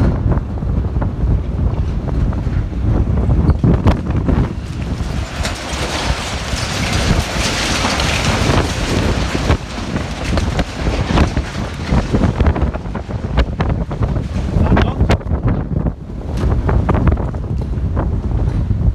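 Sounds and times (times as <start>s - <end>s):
storm wind buffeting microphone: 0.0s - 18.9s
sharp rattles and cracks: 1.3s - 18.9s.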